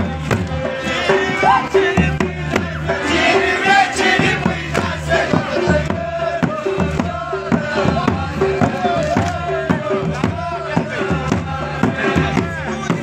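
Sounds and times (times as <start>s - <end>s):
man singing: 0.0s - 3.5s, 4.2s - 13.0s
drum beating steady rhythm: 0.0s - 13.0s.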